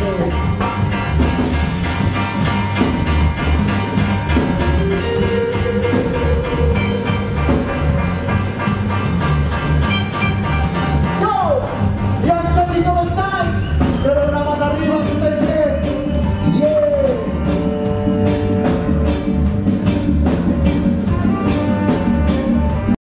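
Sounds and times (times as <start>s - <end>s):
bass and drums: 0.0s - 23.0s
reggae band playing: 0.0s - 23.0s.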